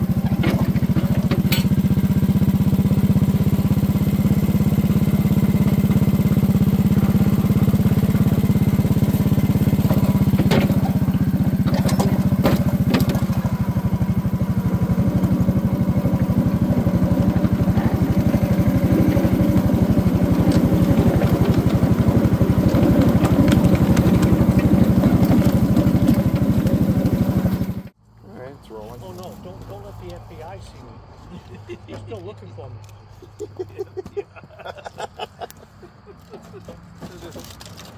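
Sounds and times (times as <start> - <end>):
small petrol engine running: 0.0 - 30.6, 35.7 - 37.9.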